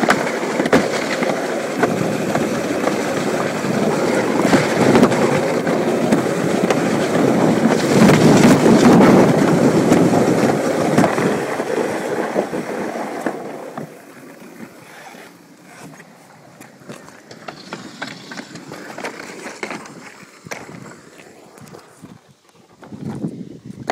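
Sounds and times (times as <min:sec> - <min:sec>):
sled rumbling down track: 0:00.0 - 0:23.9.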